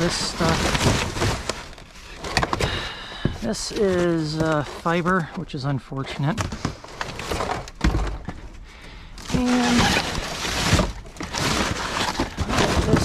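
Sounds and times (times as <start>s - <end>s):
debris clattering and scraping: 0.0s - 13.0s.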